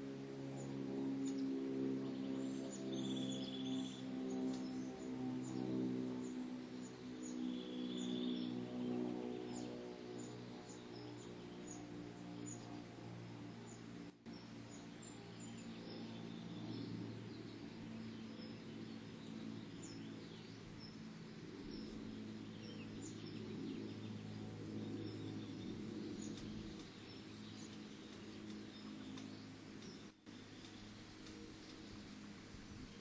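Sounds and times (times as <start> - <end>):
small birds chirping: 0.5 - 33.0.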